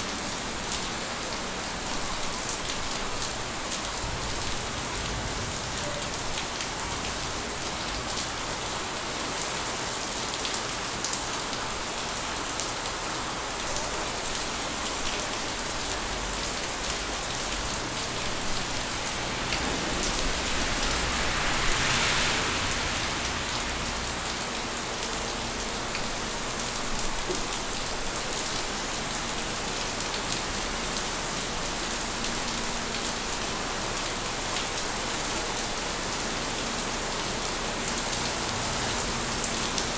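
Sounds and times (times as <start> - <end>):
steady rain on surfaces: 0.0 - 39.9.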